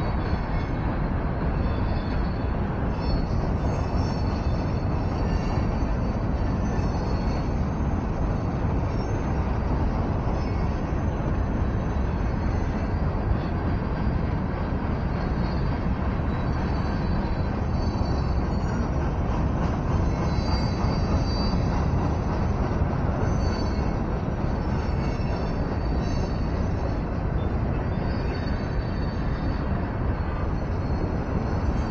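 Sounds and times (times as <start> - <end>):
faint high squeals: 0.0 - 31.9
freight train cars passing: 0.0 - 31.9.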